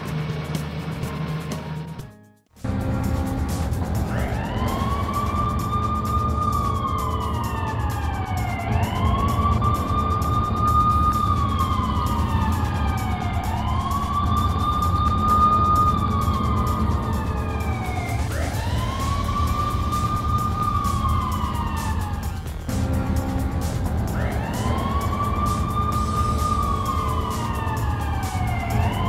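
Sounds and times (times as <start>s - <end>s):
low rumble: 2.6s - 29.0s
cartoon police siren wailing: 4.0s - 29.0s.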